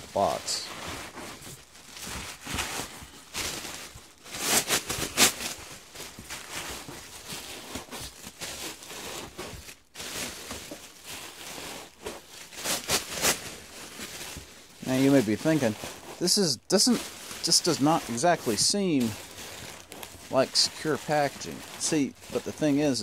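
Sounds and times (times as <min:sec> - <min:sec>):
bubble wrap crinkling: 0:00.1 - 0:23.0.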